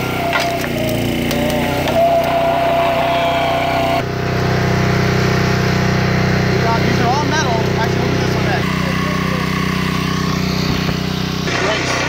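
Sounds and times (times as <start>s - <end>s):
high steady whine: 0.0s - 12.0s
small petrol engine running: 0.0s - 12.0s.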